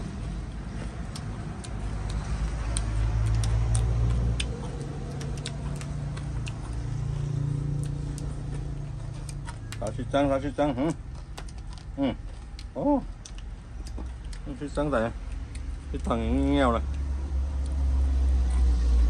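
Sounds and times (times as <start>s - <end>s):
low motor rumble: 0.0s - 19.0s
person chewing food: 0.0s - 19.0s.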